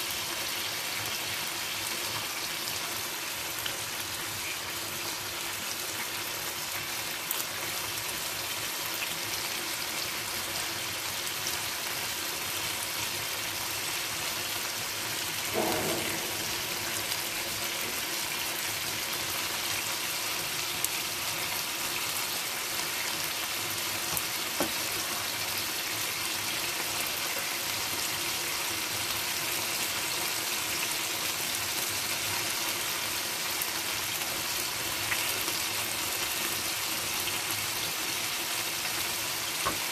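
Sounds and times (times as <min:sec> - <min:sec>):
chicken sizzling in a frying pan: 0:00.0 - 0:39.9.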